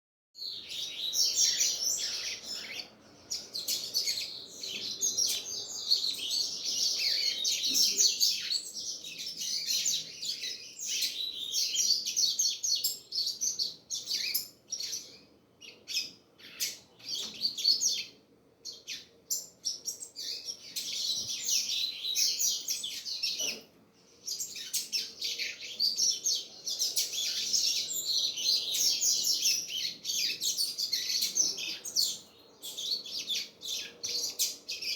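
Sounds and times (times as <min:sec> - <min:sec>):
bird singing twittering phrases: 0:00.4 - 0:34.9.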